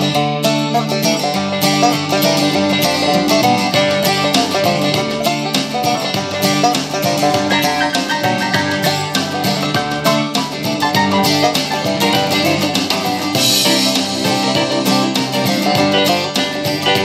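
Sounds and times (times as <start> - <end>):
bluegrass music with banjo and guitar: 0.0 - 17.0.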